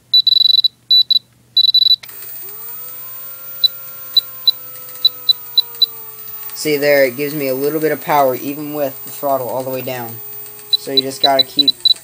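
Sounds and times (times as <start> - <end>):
transmitter beeping: 0.1 - 12.0
electric motor whine: 2.0 - 12.0.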